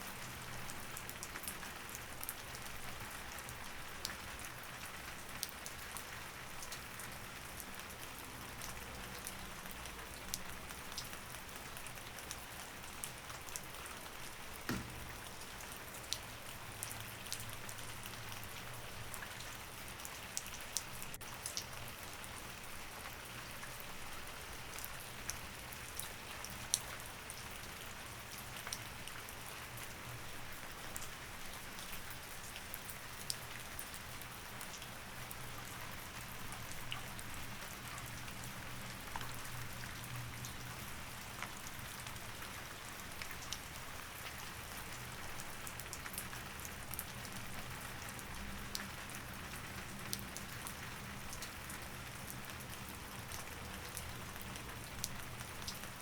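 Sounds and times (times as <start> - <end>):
steady rain hiss: 9.4 - 56.0.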